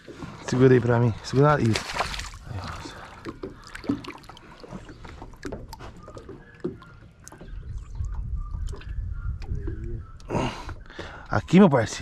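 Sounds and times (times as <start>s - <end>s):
faint water splashing: 0.0s - 11.2s.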